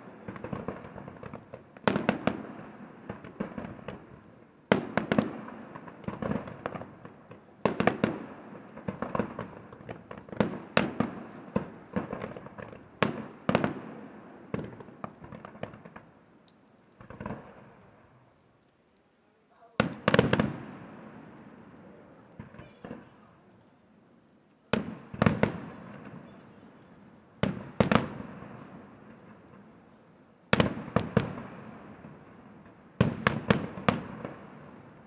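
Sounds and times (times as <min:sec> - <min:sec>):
firework shells bursting with echo: 0:00.0 - 0:35.0.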